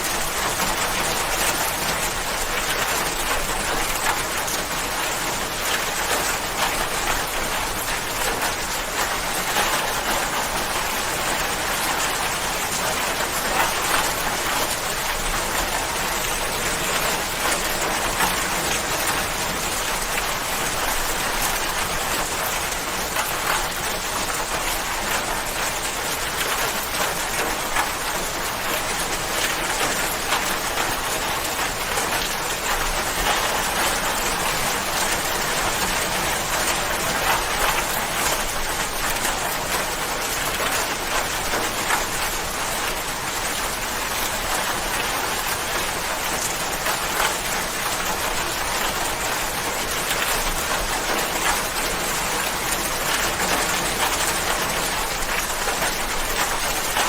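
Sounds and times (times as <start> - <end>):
raindrops pattering: 0.0 - 57.0.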